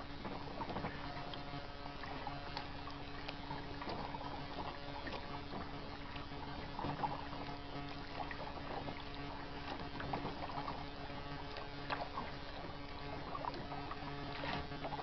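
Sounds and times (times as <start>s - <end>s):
paddle dipping in water: 0.0s - 15.0s.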